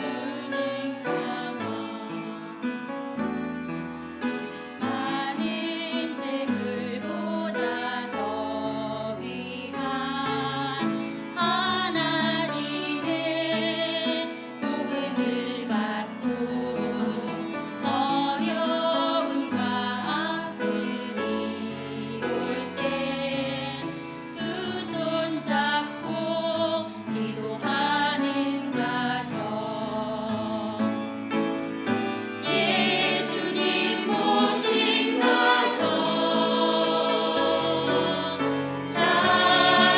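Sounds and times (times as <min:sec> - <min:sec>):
instrumental accompaniment: 0:00.0 - 0:39.9
voices singing a christian song: 0:00.0 - 0:39.9.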